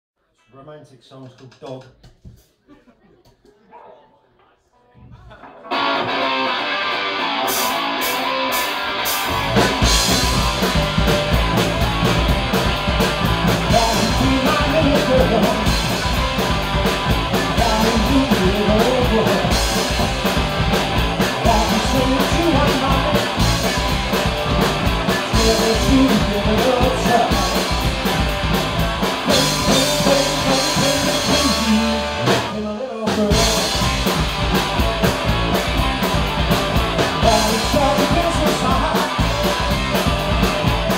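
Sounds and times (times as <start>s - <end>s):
electric guitars: 5.4s - 40.9s
drum kit: 5.6s - 40.9s
electric bass: 5.8s - 40.9s.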